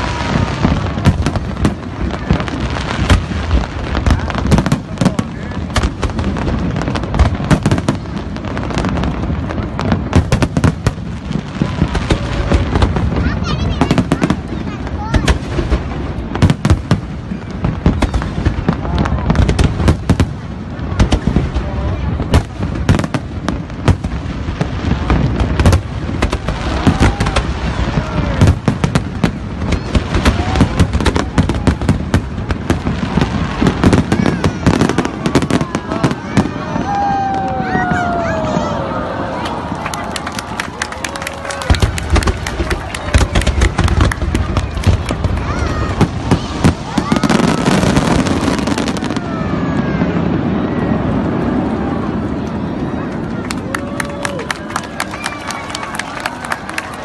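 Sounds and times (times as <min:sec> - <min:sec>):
firework bangs and crackles: 0:00.0 - 0:57.0
spectators' voices: 0:00.0 - 0:57.0.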